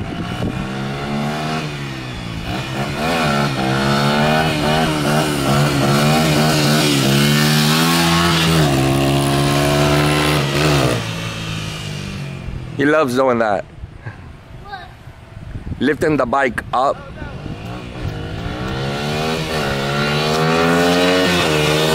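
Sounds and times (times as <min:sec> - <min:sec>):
dirt bike engine revving: 0:00.0 - 0:13.1, 0:17.1 - 0:21.9.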